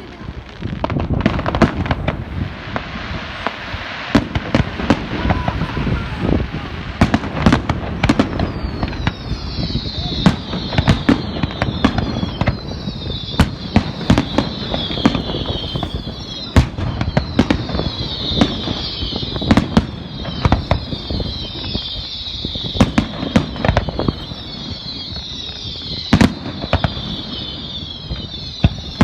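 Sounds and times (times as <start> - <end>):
fireworks bangs and crackles: 0.0 - 29.0
fireworks whistles falling in pitch: 0.0 - 29.0.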